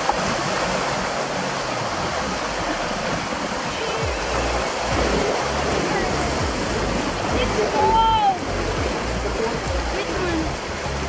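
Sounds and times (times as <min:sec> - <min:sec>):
water sloshing against jetty: 0:00.0 - 0:11.0
wind rumbling on microphone: 0:00.0 - 0:11.0.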